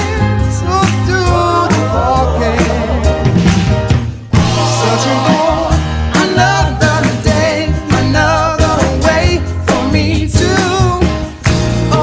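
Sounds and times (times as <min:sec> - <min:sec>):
pop song with sung vocal: 0:00.0 - 0:03.6, 0:04.3 - 0:12.0.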